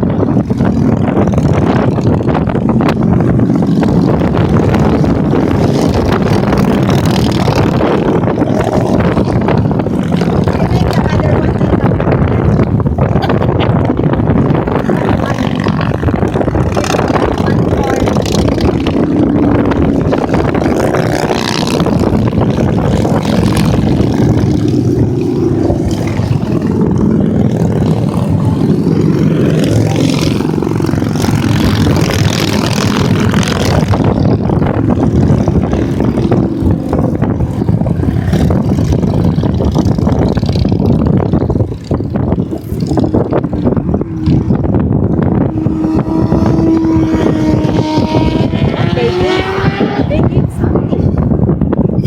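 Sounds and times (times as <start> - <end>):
motorcycles passing: 0.0 - 52.0.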